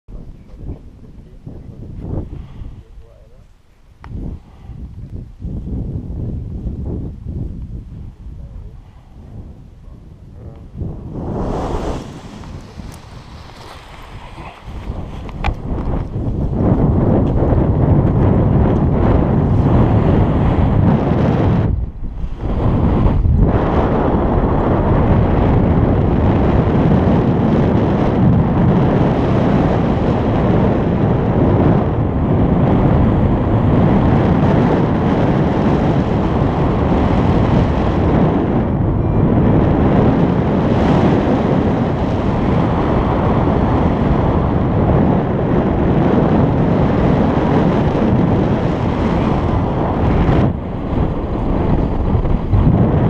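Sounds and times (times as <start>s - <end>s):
wind rushing over microphone: 0.1s - 53.0s.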